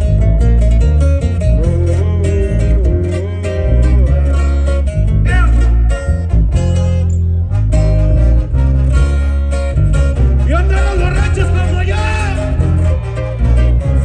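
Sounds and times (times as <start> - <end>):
acoustic guitars strumming: 0.0 - 14.0
brass bass line: 0.0 - 14.0.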